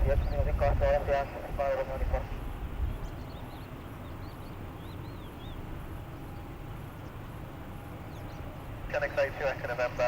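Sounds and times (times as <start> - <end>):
open-air ambience rumble and hiss: 0.0 - 10.0.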